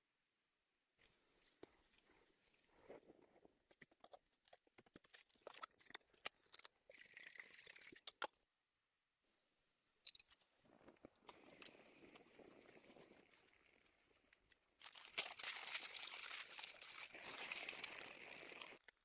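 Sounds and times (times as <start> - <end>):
faint crunching and clicking: 1.0 - 8.4, 9.3 - 19.0.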